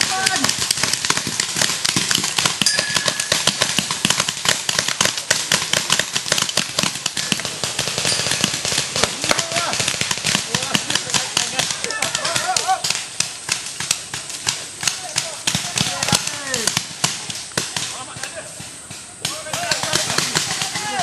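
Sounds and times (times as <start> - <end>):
paintball markers firing: 0.0 - 21.0.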